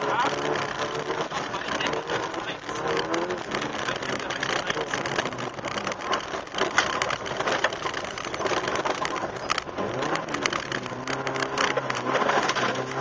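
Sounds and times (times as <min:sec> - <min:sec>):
car engine: 0:00.0 - 0:13.0
road noise: 0:00.0 - 0:13.0
sharp ticks and rattles: 0:00.0 - 0:13.0.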